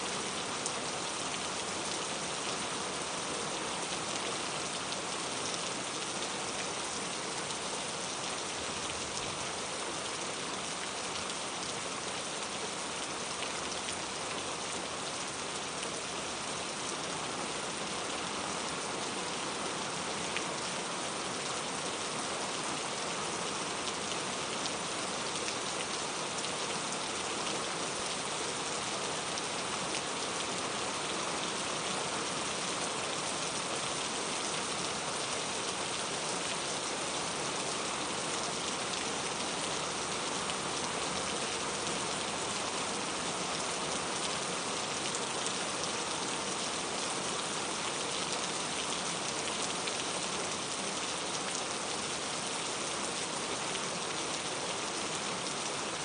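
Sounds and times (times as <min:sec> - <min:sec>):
rain spattering on a surface: 0:00.1 - 0:56.0.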